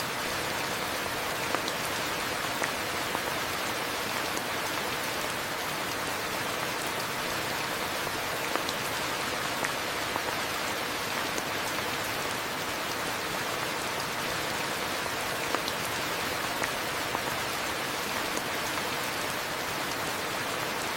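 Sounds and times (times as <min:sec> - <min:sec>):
steady rain hissing: 0:00.0 - 0:20.9.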